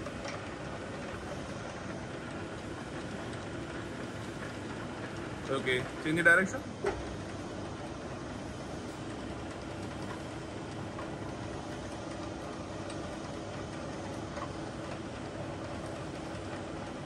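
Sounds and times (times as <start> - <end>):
milling machine feed humming: 0.0 - 17.0.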